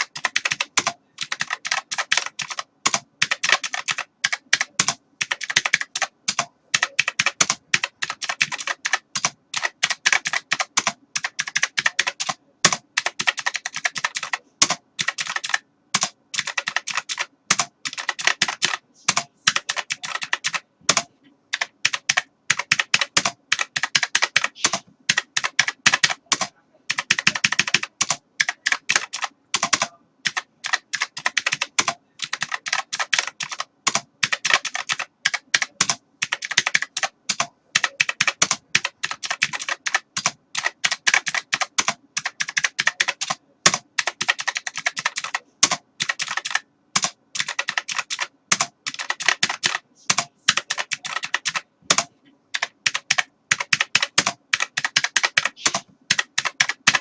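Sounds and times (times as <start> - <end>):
computer keyboard typing: 0.0 - 57.0.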